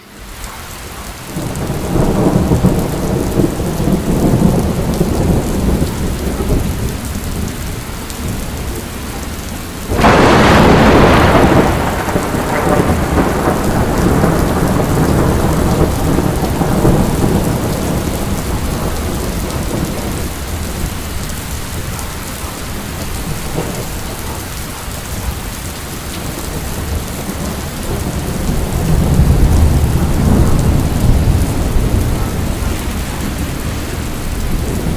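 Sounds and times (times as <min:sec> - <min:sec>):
steady rain: 0:00.0 - 0:34.9
rumbling thunder: 0:01.2 - 0:34.9
loud thunderclap: 0:01.4 - 0:09.0, 0:09.9 - 0:34.9.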